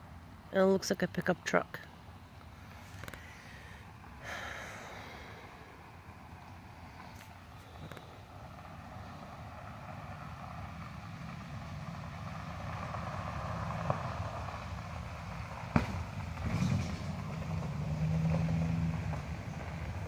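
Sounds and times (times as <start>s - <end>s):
truck engine and tyres approaching: 0.0s - 20.0s.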